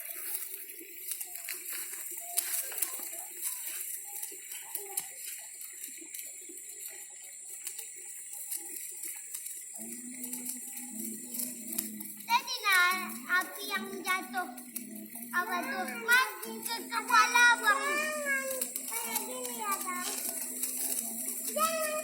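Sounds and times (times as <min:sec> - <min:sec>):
faint voices: 0:00.0 - 0:22.0
sparkler fizzing and crackling: 0:00.0 - 0:22.0.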